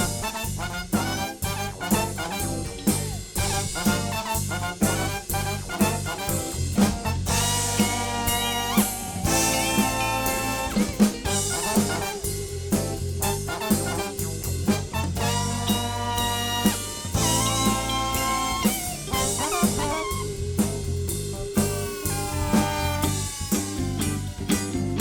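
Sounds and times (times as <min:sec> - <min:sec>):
held horn lines: 0:00.0 - 0:24.9
live band playing: 0:00.0 - 0:25.0
steady drum beat: 0:00.0 - 0:25.0.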